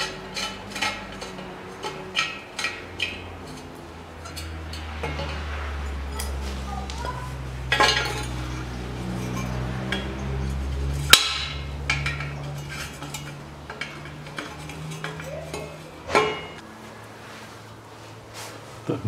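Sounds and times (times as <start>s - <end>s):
spanner clinking against metal: 0.0s - 6.4s, 7.7s - 16.6s.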